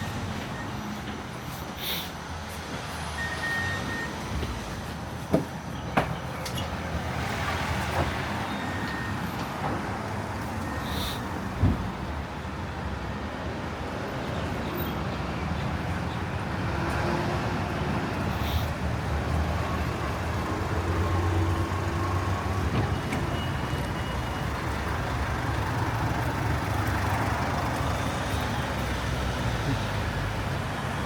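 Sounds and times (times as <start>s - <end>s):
street traffic hum: 0.0s - 31.0s.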